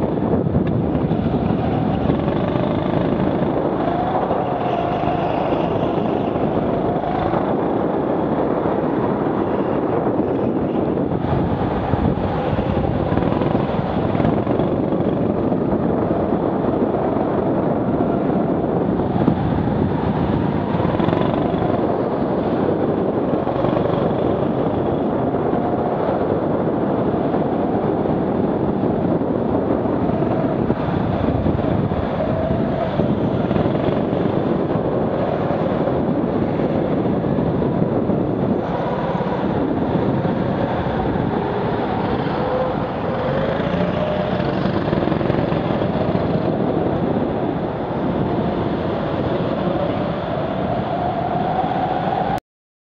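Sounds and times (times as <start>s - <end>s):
go-kart motor droning: 0.0s - 51.9s.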